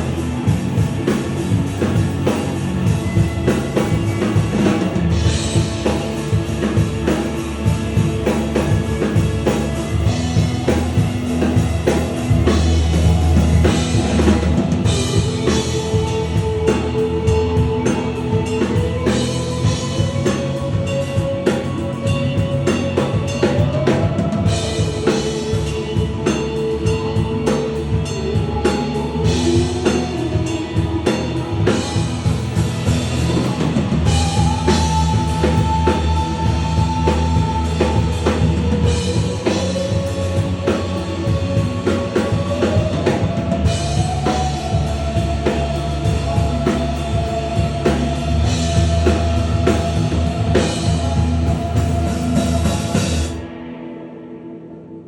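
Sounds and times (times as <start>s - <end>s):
drum kit beat: 0.0s - 53.4s
rock music: 0.0s - 55.0s.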